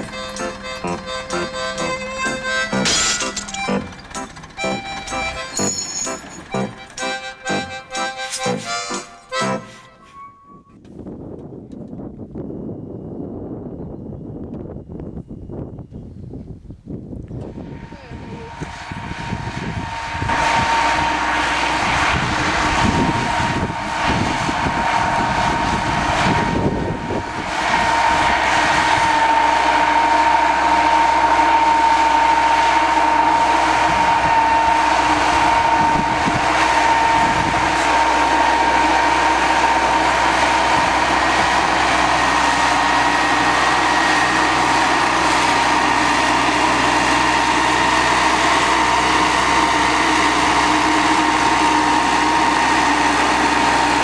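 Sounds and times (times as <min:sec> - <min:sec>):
steady high whine: 0:00.0 - 0:10.8, 0:17.2 - 0:54.0
diesel engine pulling under load: 0:00.0 - 0:13.5, 0:17.2 - 0:54.0.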